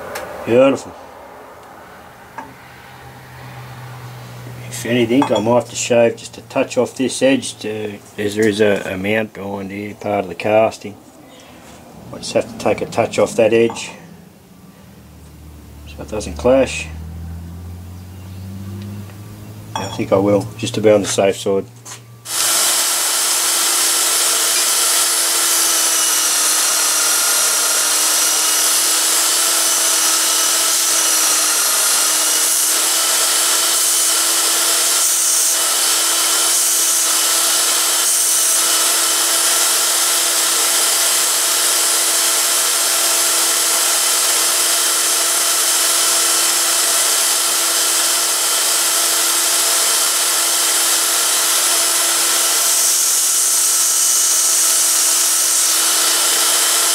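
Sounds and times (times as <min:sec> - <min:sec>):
belt sander grinding steel: 0:02.2 - 0:14.2, 0:18.5 - 0:56.9.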